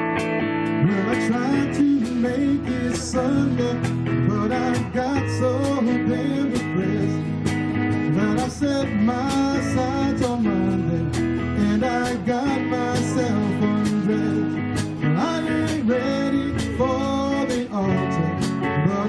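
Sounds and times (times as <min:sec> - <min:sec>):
guitar: 0:00.0 - 0:19.0
live band playing: 0:00.0 - 0:19.0
drums beating: 0:01.1 - 0:18.9.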